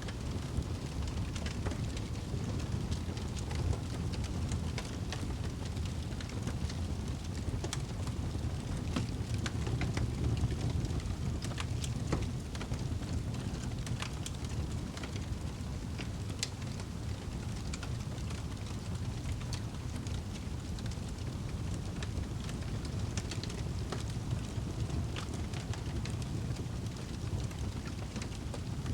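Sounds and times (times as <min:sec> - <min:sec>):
fire crackling and popping: 0:00.0 - 0:28.9
low rush of flame: 0:00.1 - 0:28.9.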